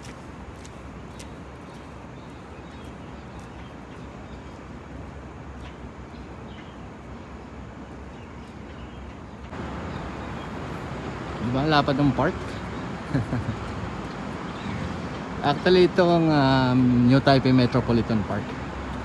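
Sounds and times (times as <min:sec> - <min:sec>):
distant road traffic hum: 0:00.0 - 0:19.0.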